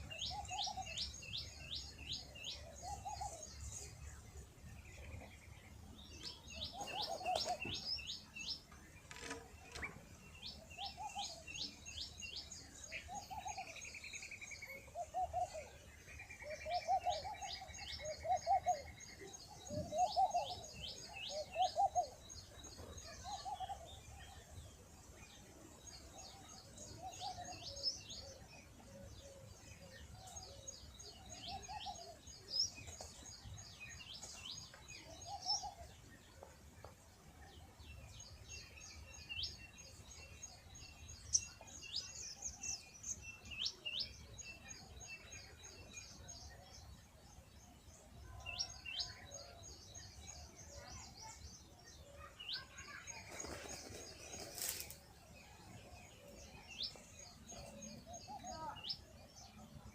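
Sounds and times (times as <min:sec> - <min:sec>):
small birds chirping and twittering: 0:00.0 - 0:59.9.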